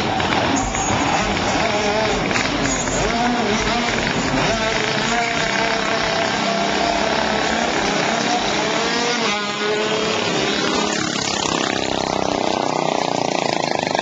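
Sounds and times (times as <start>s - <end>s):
minibike engines revving high: 0.0s - 14.0s.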